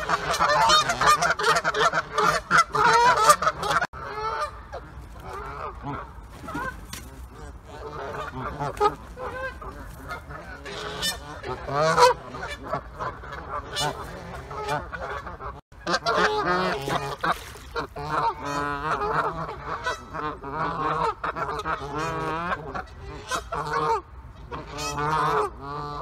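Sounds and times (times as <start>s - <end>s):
geese honking: 0.0s - 26.0s.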